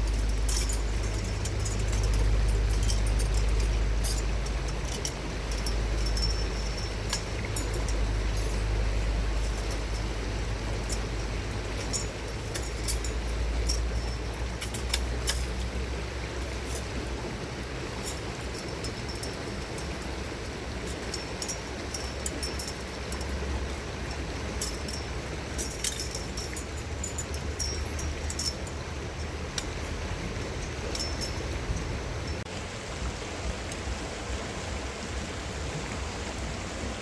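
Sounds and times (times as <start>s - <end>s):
light clicks and clinks: 0.0s - 32.5s
outdoor background noise with low rumble: 0.0s - 37.0s.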